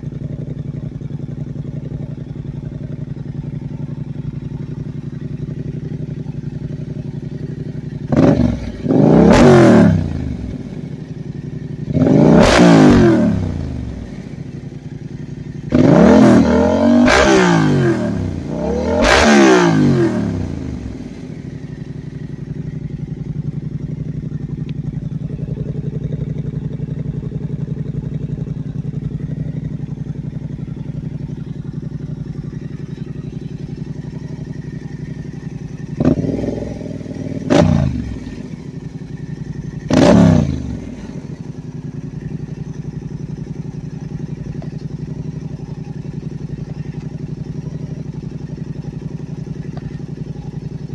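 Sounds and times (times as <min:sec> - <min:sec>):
motorcycle engine idling: 0:00.0 - 0:50.9
motorcycle throttle blips: 0:00.0 - 0:50.9.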